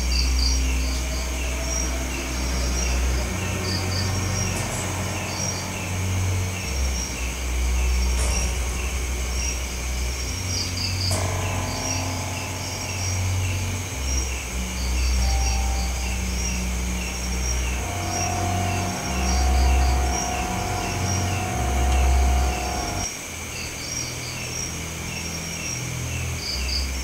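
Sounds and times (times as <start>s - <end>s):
deep low hum: 0.0s - 23.1s
crickets chirping: 0.0s - 27.0s.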